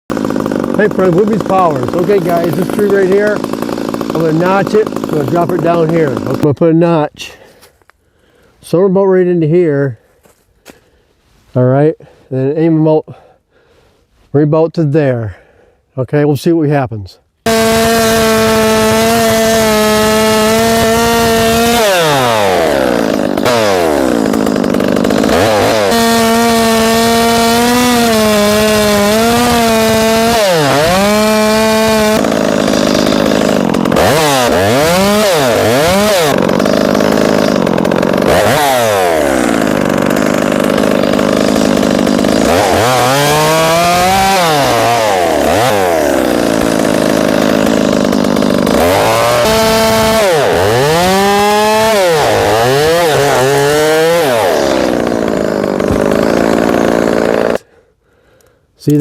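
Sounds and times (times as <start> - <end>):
chainsaw cutting at full throttle: 0.1 - 7.6, 17.4 - 58.6.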